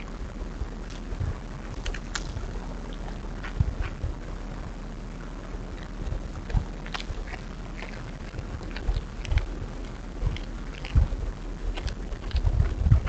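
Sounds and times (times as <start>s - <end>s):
low thumps: 0.0s - 13.0s.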